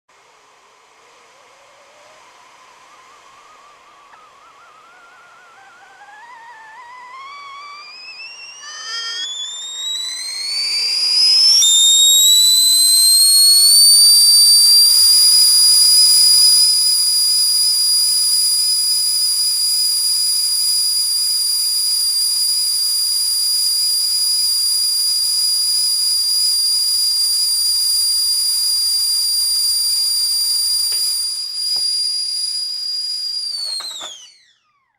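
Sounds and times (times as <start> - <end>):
steam hissing: 0.2 - 34.4
kettle whistling: 0.2 - 34.9.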